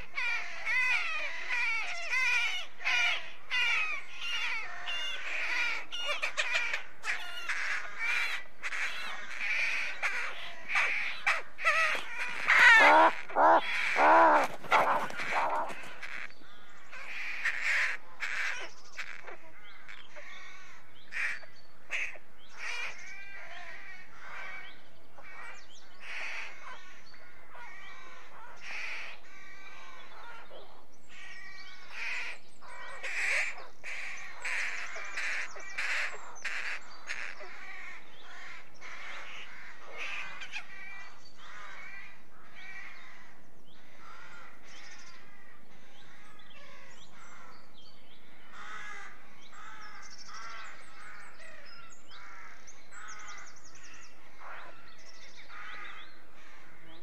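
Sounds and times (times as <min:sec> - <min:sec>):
rooks cawing: 0:00.0 - 0:57.0.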